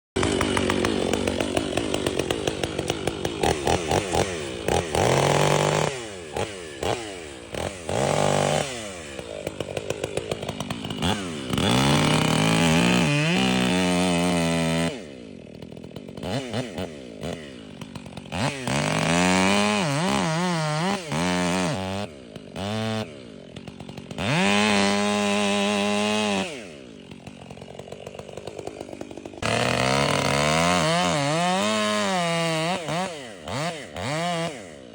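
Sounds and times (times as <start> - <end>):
chainsaw revving: 0.2 - 34.9.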